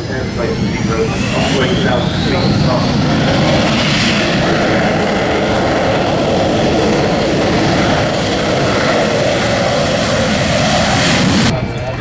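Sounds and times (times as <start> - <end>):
jet aircraft engines rushing: 0.0 - 12.0.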